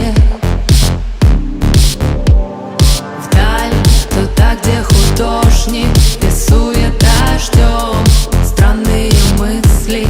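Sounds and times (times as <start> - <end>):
bass drum beat: 0.0 - 10.0
person singing: 0.0 - 10.0.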